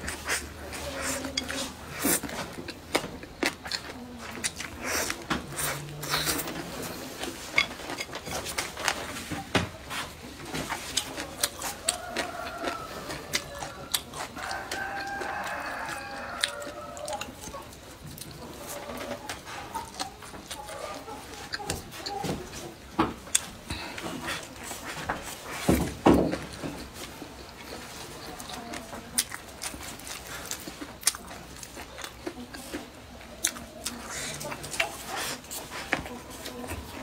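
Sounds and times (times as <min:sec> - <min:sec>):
chewing and crunching: 0:00.0 - 0:37.0.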